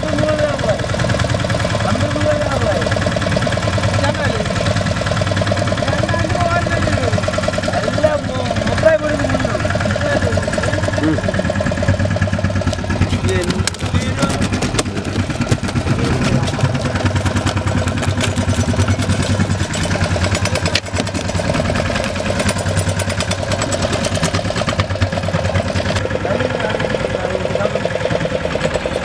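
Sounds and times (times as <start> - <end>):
boat engine chugging: 0.0 - 29.0.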